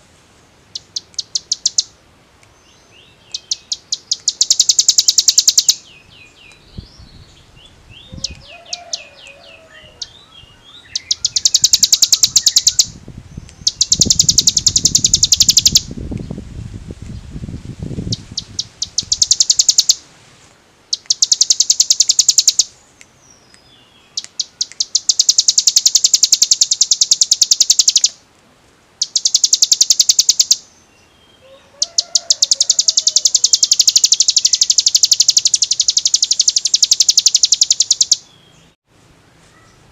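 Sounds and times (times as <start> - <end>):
bird singing rapid trill: 0.7 - 2.0, 2.6 - 15.9, 18.0 - 20.0, 20.9 - 22.7, 23.3 - 28.2, 29.0 - 38.8.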